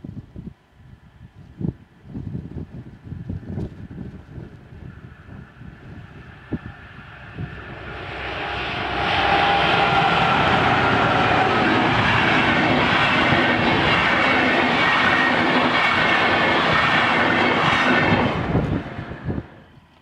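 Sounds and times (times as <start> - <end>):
passenger train passing: 3.8 - 20.0.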